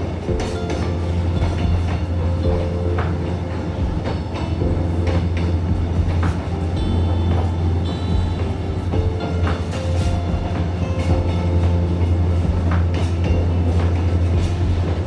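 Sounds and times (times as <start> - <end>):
train rumbling on track: 0.0 - 15.0
wheels clacking over rails: 0.0 - 15.0.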